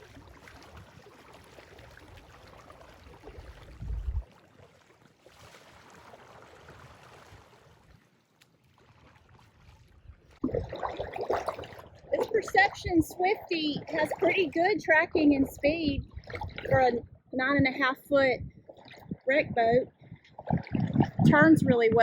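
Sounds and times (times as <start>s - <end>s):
water moving along hull: 0.0s - 22.0s.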